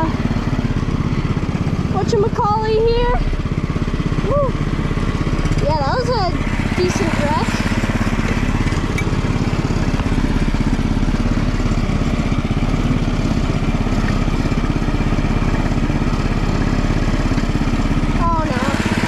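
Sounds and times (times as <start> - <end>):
go-kart engine running: 0.0 - 19.0.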